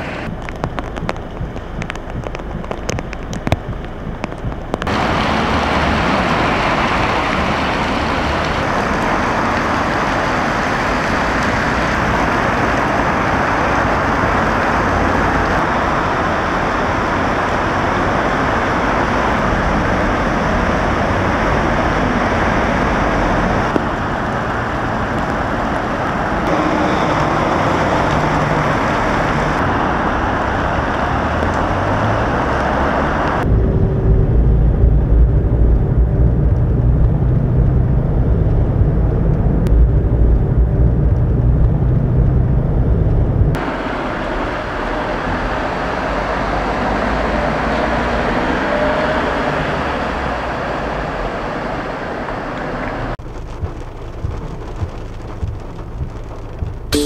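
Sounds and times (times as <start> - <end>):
car tyres swishing through water: 0.0 - 33.5, 43.6 - 57.0
heavy rain: 0.0 - 57.0
low rumble of traffic: 0.0 - 57.0.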